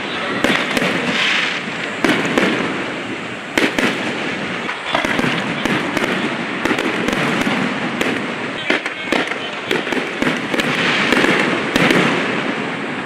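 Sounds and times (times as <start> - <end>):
fireworks bursting: 0.0 - 13.0
noisy background: 0.0 - 13.0.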